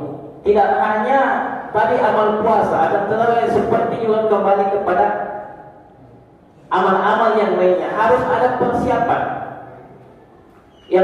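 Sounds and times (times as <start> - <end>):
man preaching: 0.0 - 5.9, 6.6 - 9.8.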